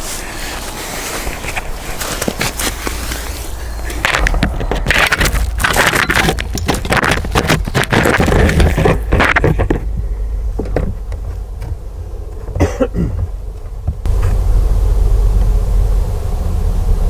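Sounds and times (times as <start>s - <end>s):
microphone scraping against wood: 0.0s - 14.5s
low steady rumble: 0.4s - 17.0s.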